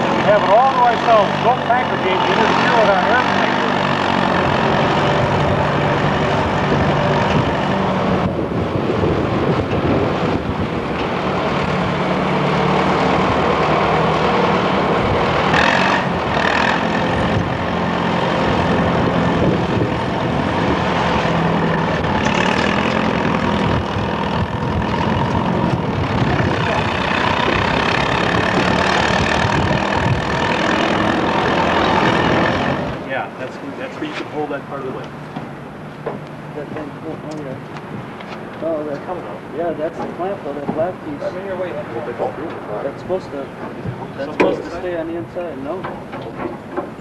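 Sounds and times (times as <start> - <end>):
road traffic noise: 0.0 - 47.0
vehicle engine humming: 0.0 - 47.0.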